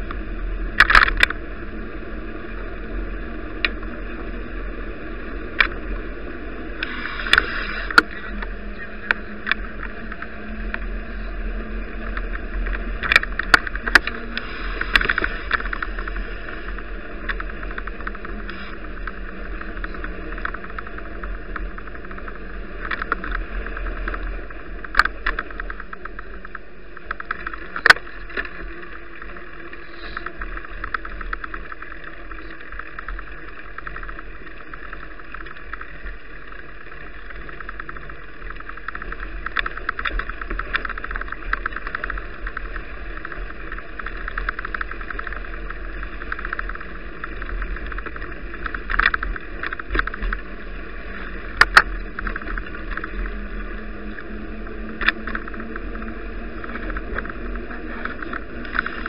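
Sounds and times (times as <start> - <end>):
bicycle rattles and clicks: 0.0 - 59.0
wind and road noise: 0.0 - 59.0.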